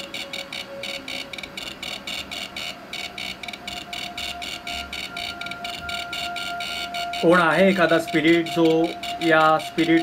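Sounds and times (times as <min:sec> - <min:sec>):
meter crackling chirps: 0:00.0 - 0:10.0.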